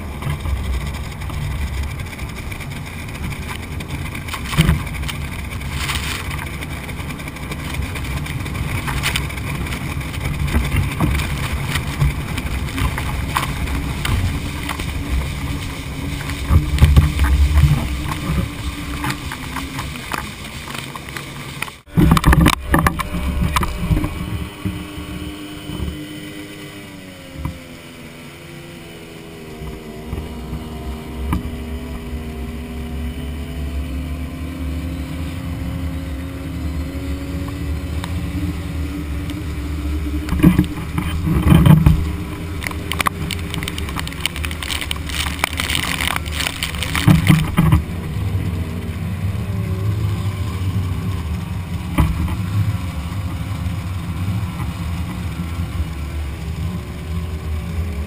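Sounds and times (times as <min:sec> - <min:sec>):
outboard motor droning: 0:00.0 - 0:58.0
water rushing against hull: 0:00.0 - 0:58.0.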